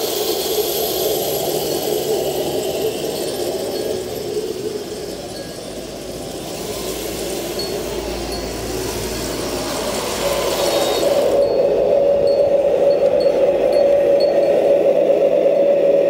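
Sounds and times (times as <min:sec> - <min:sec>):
hiss: 0:00.0 - 0:16.0
electric motor whining: 0:01.4 - 0:15.9.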